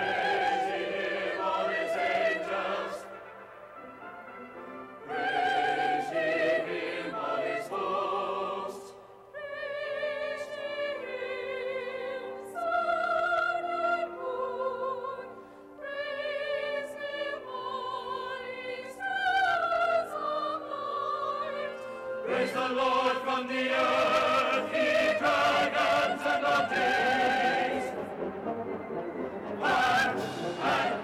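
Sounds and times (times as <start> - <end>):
choir singing held notes: 0.0 - 31.0
orchestral accompaniment: 0.0 - 31.0.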